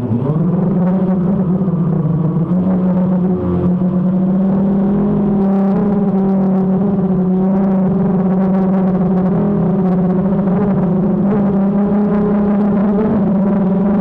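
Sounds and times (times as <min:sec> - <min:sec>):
drone motors humming: 0:00.0 - 0:14.0.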